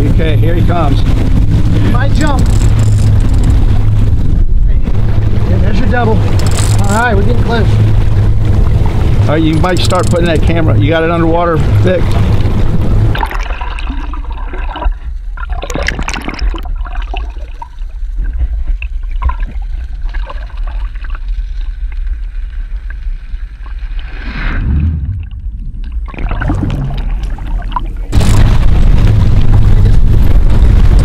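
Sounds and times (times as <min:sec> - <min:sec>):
rushes of water: 0:00.0 - 0:31.0
underwater rumble: 0:00.0 - 0:31.0
water gurgling and bubbling: 0:00.0 - 0:31.0.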